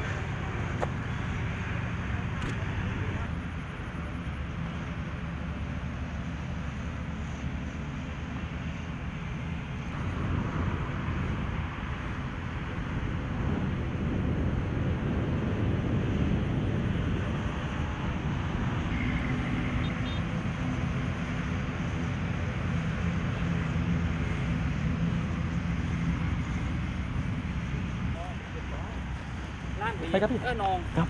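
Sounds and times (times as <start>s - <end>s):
aircraft engines rumbling: 0.0s - 31.0s.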